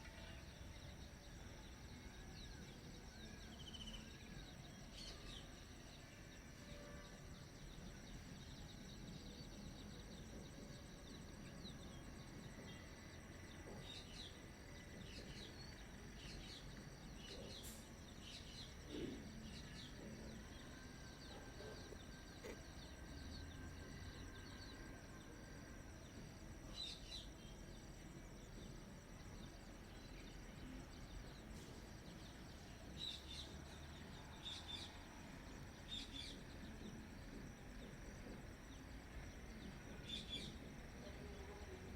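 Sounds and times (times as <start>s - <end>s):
low steady background noise: 0.0s - 41.9s.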